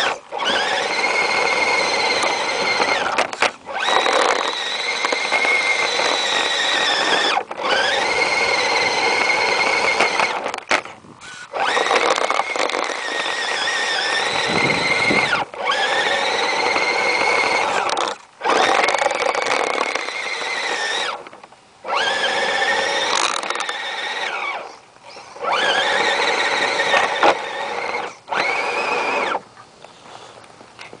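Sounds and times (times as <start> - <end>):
electric motor whining: 0.0 - 30.4.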